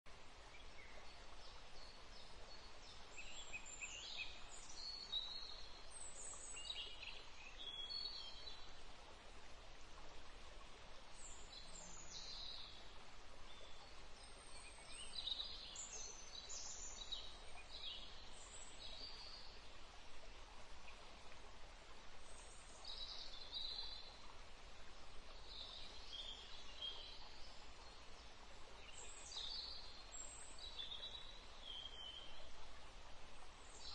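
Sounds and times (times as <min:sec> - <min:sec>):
faint birds chirping: 0:00.1 - 0:33.9
steady background hiss: 0:00.1 - 0:33.9.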